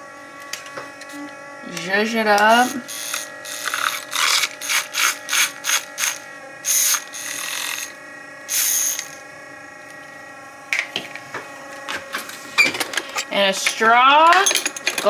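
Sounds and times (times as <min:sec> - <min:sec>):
milk frother whirring: 0:00.0 - 0:15.0.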